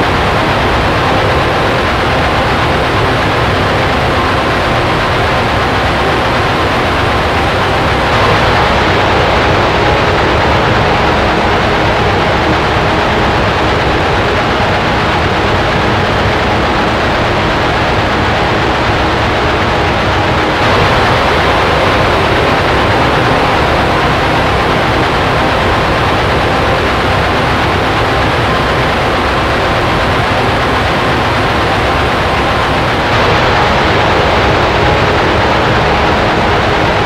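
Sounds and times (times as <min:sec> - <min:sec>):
distorted guitars: 0:00.0 - 0:37.0.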